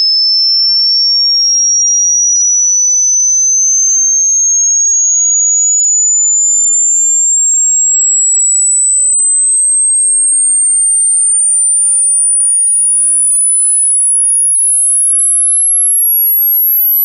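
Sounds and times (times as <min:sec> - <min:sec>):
high sine tone sweeping upward: 0:00.0 - 0:17.0.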